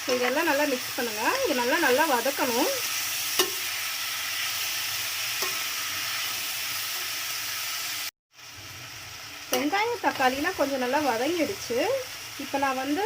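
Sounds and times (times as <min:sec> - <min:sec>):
vegetables frying in hot oil: 0:00.0 - 0:13.0.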